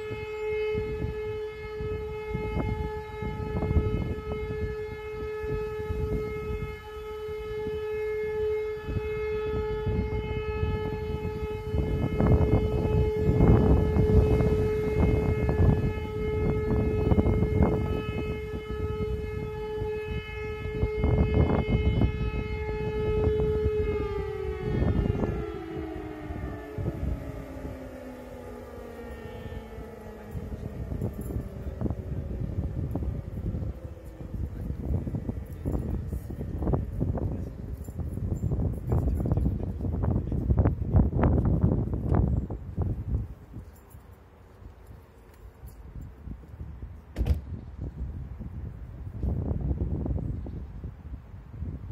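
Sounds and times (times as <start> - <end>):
civil defence siren: 0.0 - 51.9
wind buffeting microphone: 0.0 - 51.9.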